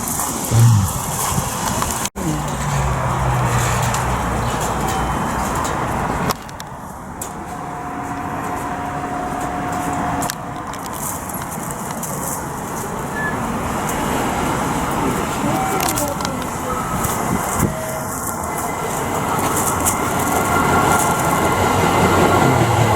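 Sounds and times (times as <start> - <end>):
road traffic passing: 0.0 - 22.9.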